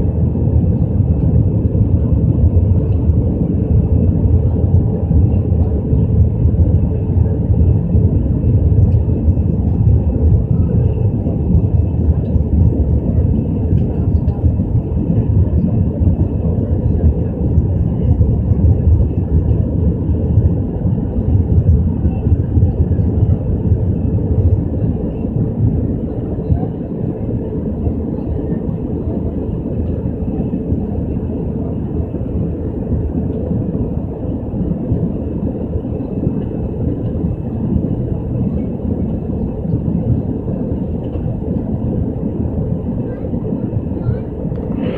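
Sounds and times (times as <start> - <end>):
airplane cabin roar in flight: 0.0 - 44.9.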